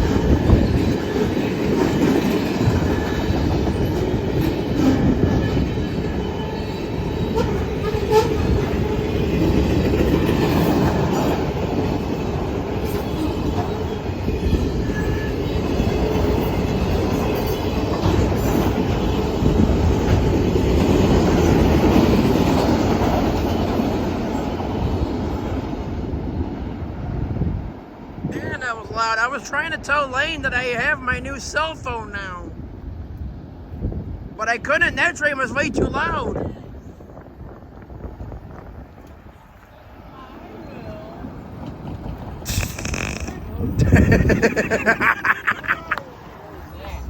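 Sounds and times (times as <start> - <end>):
freight train rumbling past: 0.0 - 42.6.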